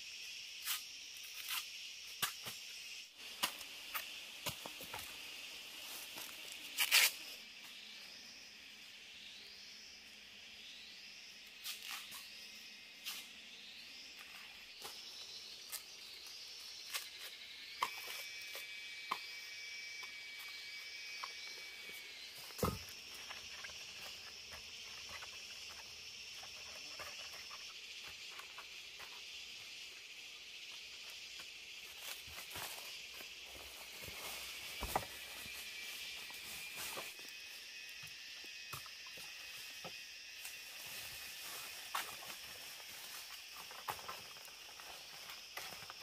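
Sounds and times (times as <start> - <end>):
forest insects chirring: 0.0 - 46.0.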